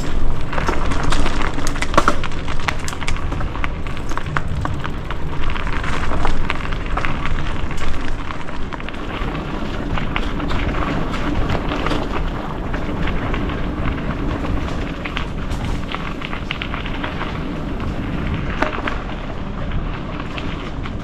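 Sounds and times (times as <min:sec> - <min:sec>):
bike clicks and rattles: 0:00.0 - 0:21.0
tyres running over dirt: 0:00.0 - 0:21.0
wind rumble on microphone: 0:00.0 - 0:21.0.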